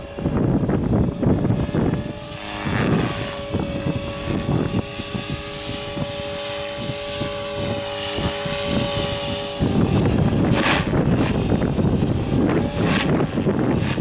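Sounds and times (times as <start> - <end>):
rc helicopter motor whine: 0.0 - 14.0
wind buffeting microphone: 0.0 - 14.0.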